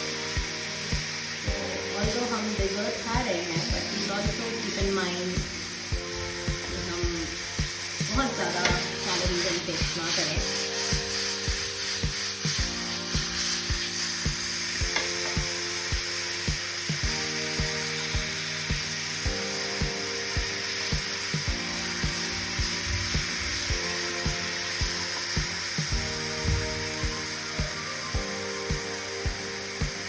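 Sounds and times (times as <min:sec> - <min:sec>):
background music with steady beat: 0:00.0 - 0:30.0
banana slices sizzling in pan: 0:00.0 - 0:30.0.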